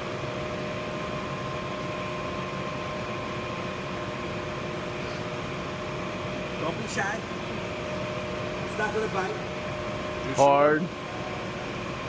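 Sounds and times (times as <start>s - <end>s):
constant hum: 0.0s - 12.0s
faint steady whine: 0.0s - 12.0s
furnace fan air noise: 0.0s - 12.0s.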